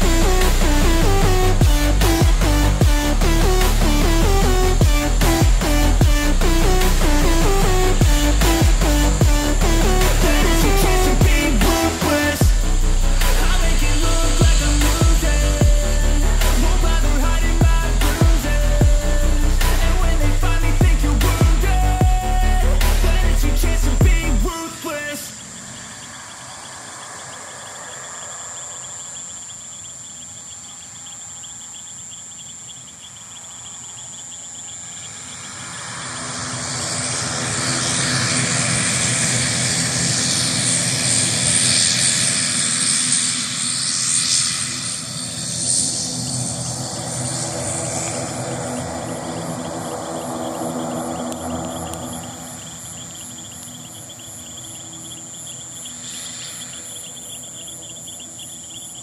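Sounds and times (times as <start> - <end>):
aircraft engines passing: 0.0 - 59.0
crickets chirring: 0.0 - 59.0.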